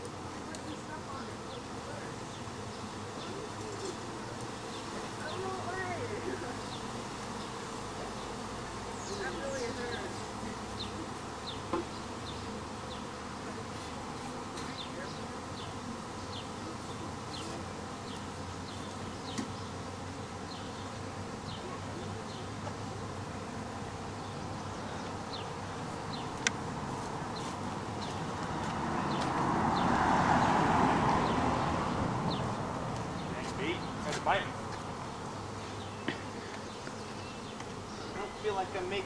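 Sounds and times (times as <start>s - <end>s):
bee swarm buzzing: 0.0s - 39.0s.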